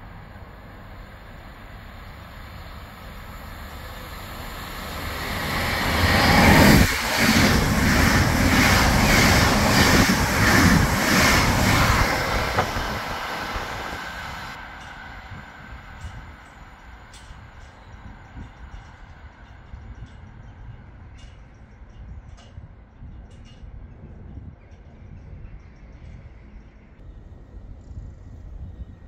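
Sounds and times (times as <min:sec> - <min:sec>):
train passing with wheel clatter: 0:00.0 - 0:29.0.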